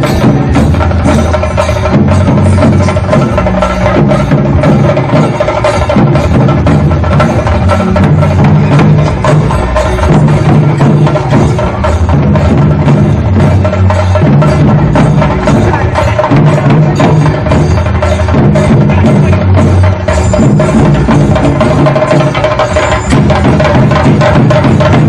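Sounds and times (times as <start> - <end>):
drums beaten with sticks: 0.0 - 25.0.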